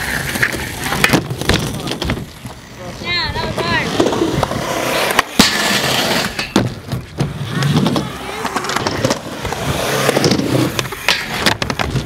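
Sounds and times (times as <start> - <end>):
skateboard clacks: 0.0 - 2.6, 3.3 - 12.0
skateboard wheels rolling on concrete: 0.0 - 12.0.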